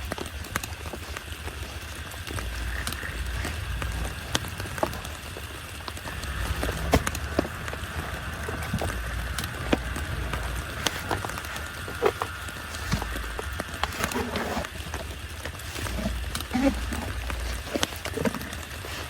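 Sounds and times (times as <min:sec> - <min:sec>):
heavy rain hissing: 0:00.0 - 0:19.0
raindrops tapping: 0:00.0 - 0:19.0
low rumble: 0:01.6 - 0:19.0.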